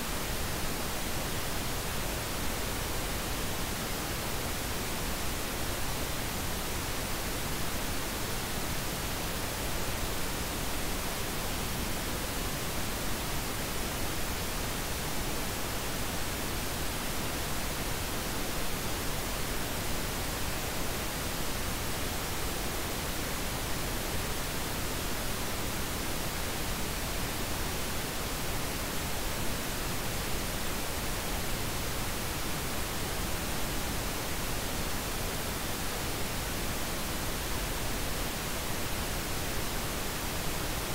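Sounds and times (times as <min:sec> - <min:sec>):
steady noise hiss: 0:00.0 - 0:40.9.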